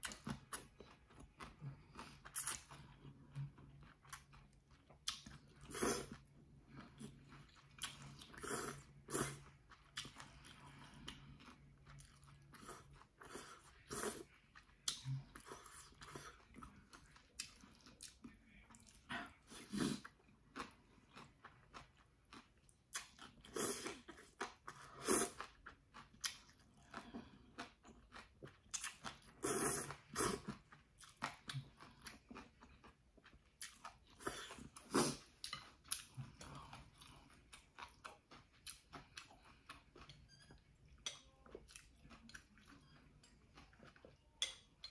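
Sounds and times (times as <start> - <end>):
person chewing and slurping noodles: 0.0 - 44.9.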